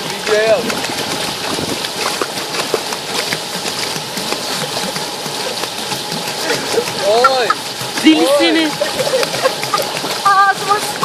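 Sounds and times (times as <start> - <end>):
pool water splashing: 0.0 - 11.0
steady water noise: 0.0 - 11.0.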